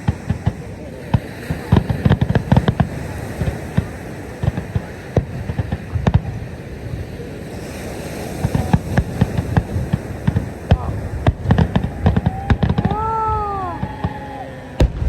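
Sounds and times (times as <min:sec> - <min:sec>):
fireworks booms and pops: 0:00.0 - 0:15.0.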